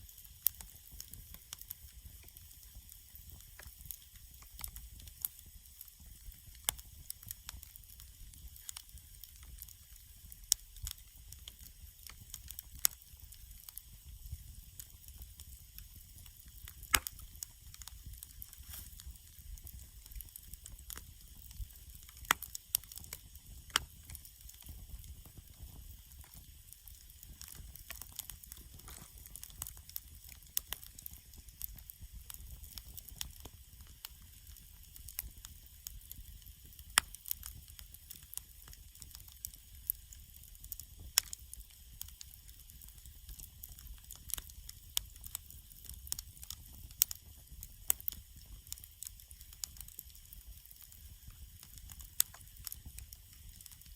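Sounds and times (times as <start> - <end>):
fire popping: 0.0 - 53.9
wood campfire crackling: 0.0 - 53.9.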